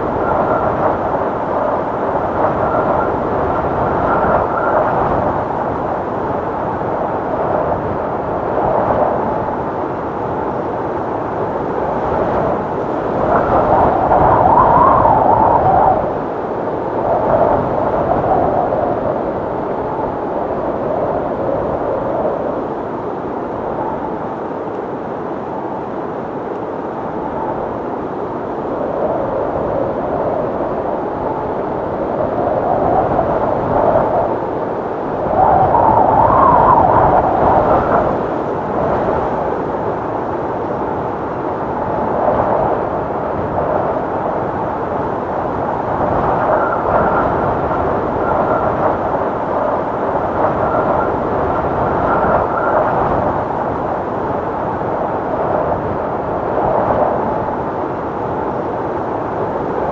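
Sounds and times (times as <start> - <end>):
wind gusts: 0.0 - 59.9.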